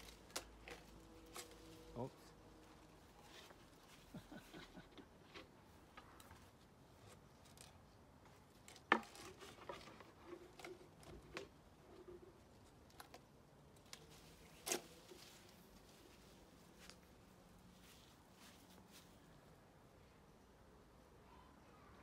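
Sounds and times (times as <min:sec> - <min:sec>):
leaves and twigs rustling: 0:00.0 - 0:19.6.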